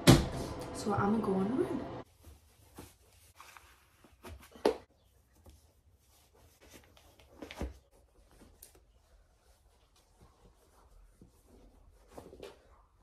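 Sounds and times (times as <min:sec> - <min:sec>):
clothing rustling: 0:02.0 - 0:13.0.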